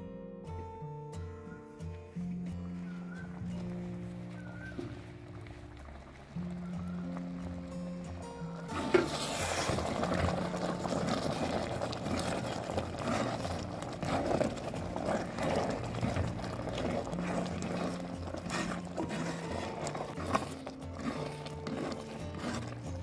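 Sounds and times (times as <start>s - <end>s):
thick syrup bubbling in pot: 2.7s - 23.0s
wooden spoon stirring: 2.8s - 23.0s.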